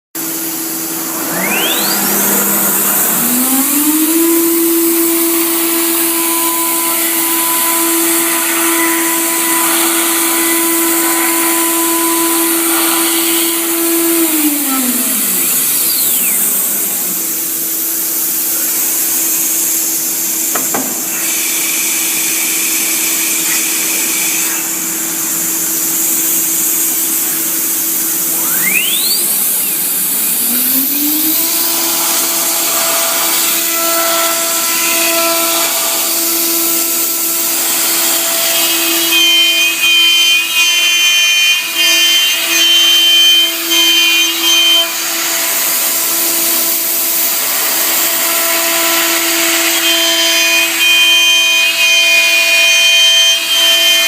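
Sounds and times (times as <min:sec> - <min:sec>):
router spindle whine: 0:00.2 - 0:54.0.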